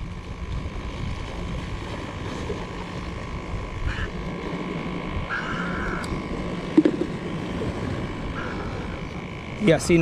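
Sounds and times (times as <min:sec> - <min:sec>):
distant motor drone: 0:00.0 - 0:10.0
wind: 0:00.0 - 0:10.0.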